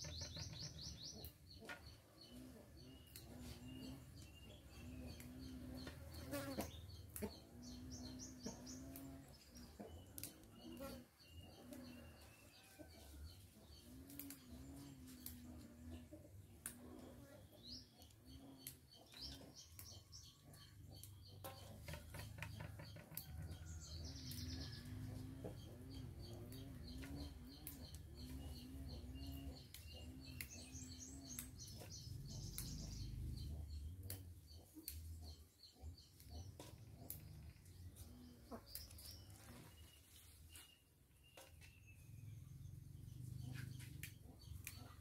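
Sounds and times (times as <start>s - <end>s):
small high bird chirps: 0.0s - 9.2s, 17.0s - 45.0s.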